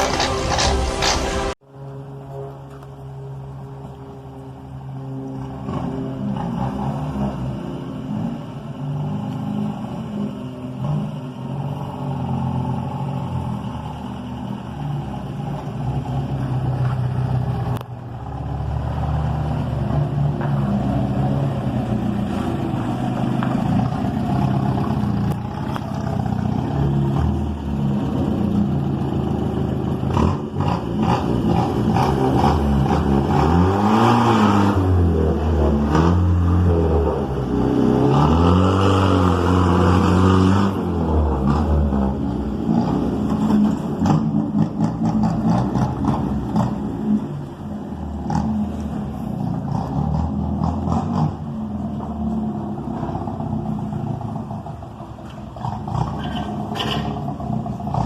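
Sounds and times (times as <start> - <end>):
car engine revving: 4.8 - 58.0.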